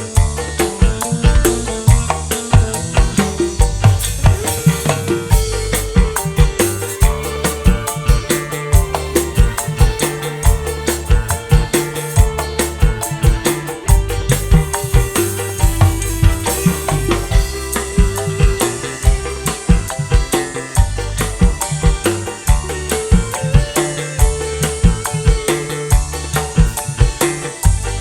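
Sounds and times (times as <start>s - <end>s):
fast drum and percussion beat: 0.0s - 28.0s
heavy bass: 0.0s - 28.0s
live band through pa system: 0.0s - 28.0s
held melodic note: 3.6s - 28.0s.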